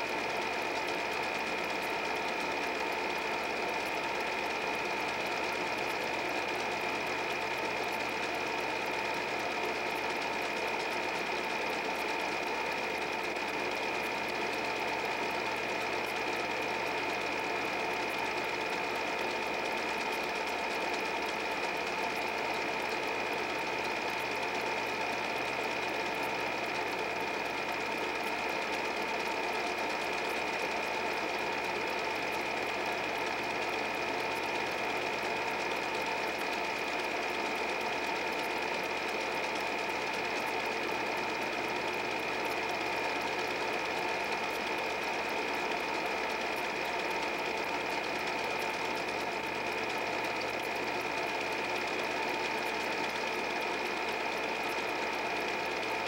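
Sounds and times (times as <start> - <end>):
film projector whirring and clattering: 0.0 - 56.0.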